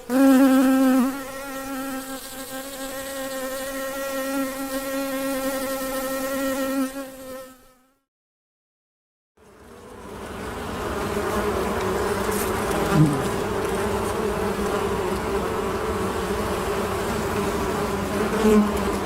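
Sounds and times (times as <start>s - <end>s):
bee passing close: 0.0s - 8.0s, 9.4s - 19.0s
honey bees buzzing: 0.0s - 8.0s, 9.4s - 19.0s.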